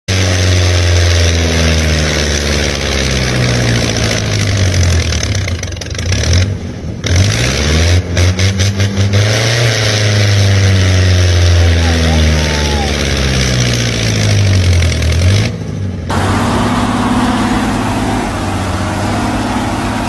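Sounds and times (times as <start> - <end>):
truck engine running: 0.1 - 20.0.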